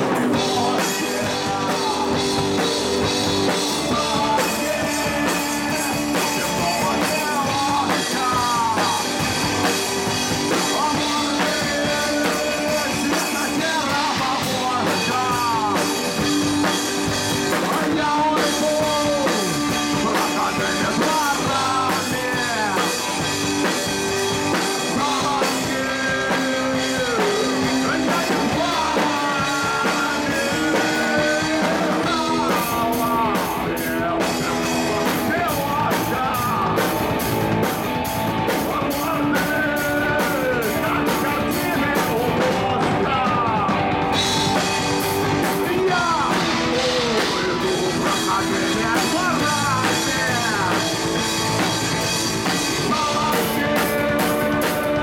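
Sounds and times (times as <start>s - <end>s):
live rock band playing: 0.0s - 55.0s
man singing: 0.0s - 55.0s.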